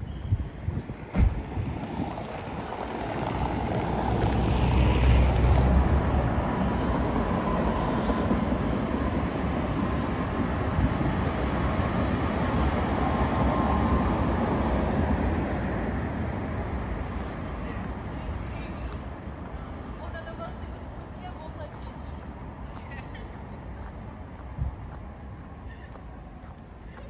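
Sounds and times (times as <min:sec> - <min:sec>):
trams rumbling past: 0:01.4 - 0:27.0.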